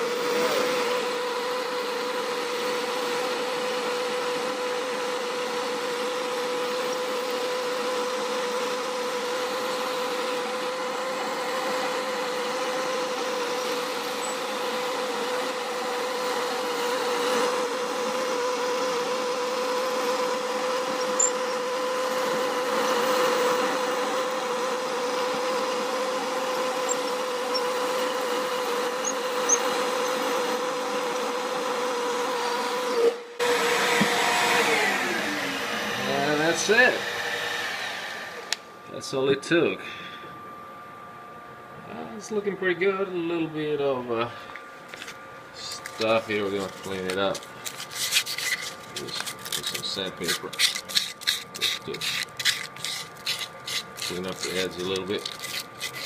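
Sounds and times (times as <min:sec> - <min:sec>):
milling machine cutting wood: 0:00.0 - 0:38.6, 0:45.6 - 0:56.0
shop vacuum running: 0:00.0 - 0:56.0.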